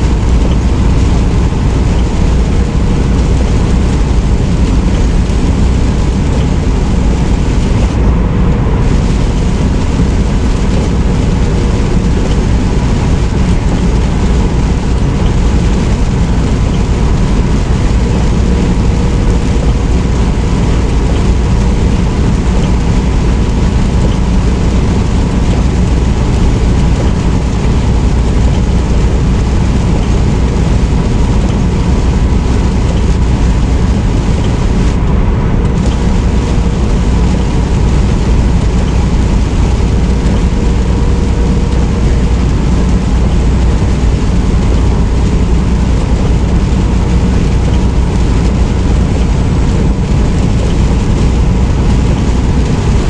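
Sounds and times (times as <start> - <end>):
truck engine and road rumble: 0.0 - 53.0.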